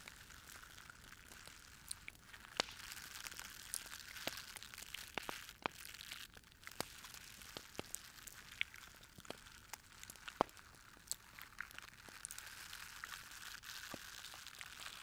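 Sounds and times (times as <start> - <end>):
fire crackling and popping: 0.0 - 15.0
soft steady hiss: 0.0 - 15.0.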